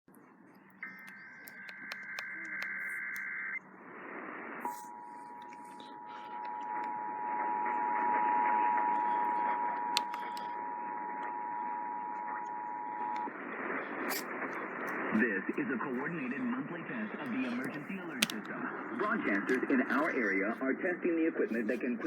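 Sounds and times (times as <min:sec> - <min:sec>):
radio hiss: 0:00.8 - 0:22.0.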